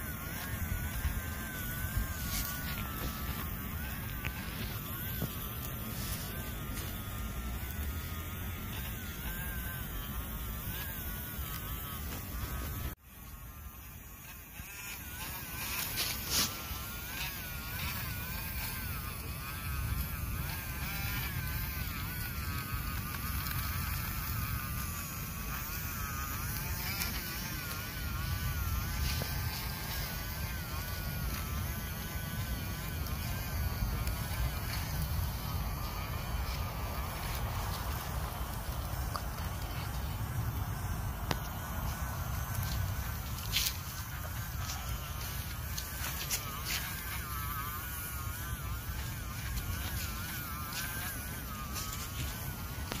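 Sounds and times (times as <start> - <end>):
small electric motor whining: 0.0 - 53.0.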